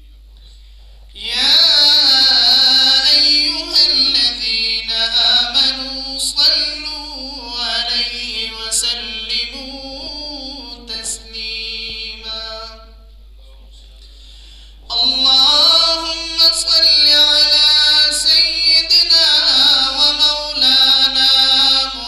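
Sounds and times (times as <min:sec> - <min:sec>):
man chanting recitation: 0:00.1 - 0:14.0, 0:14.8 - 0:22.0.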